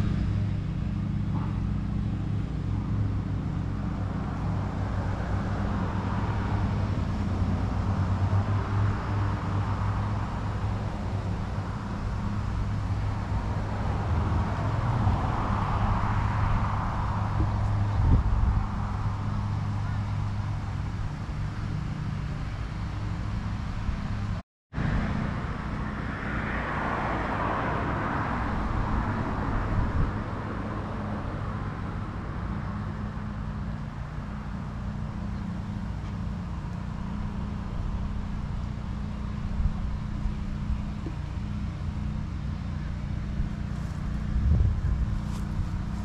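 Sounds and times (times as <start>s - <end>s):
low mechanical hum: 0.0s - 26.4s, 28.4s - 46.0s
car passing by: 0.0s - 46.0s.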